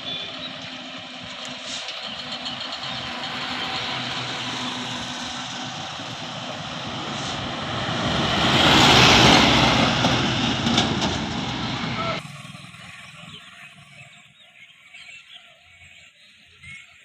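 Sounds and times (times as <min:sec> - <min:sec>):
road vehicle passing by: 0:00.0 - 0:14.7.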